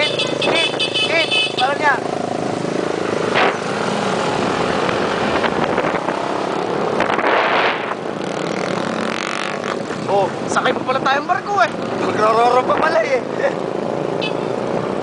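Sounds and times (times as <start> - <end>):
motorcycles running: 0.0 - 15.0
road and wind noise: 0.0 - 15.0.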